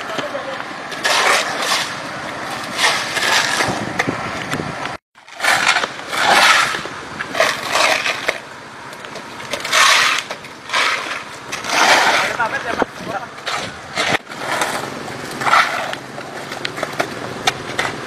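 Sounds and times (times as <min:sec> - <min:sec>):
shovels scraping mud on asphalt: 0:00.0 - 0:18.0.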